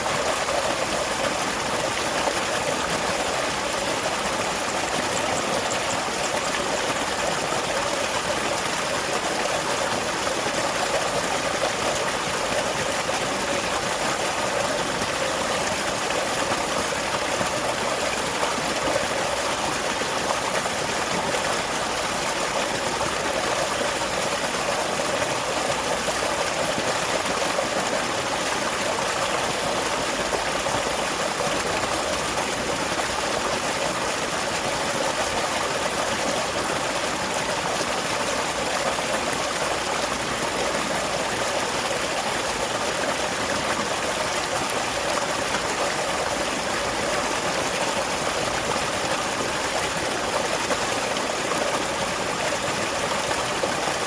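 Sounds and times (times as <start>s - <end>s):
small waterfall flowing: 0.0s - 54.0s.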